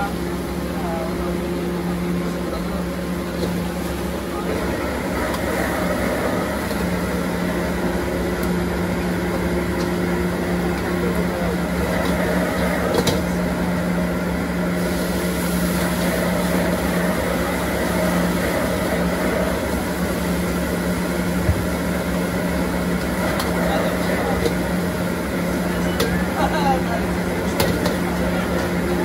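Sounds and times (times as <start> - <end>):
gas burner and fan humming: 0.0 - 29.0.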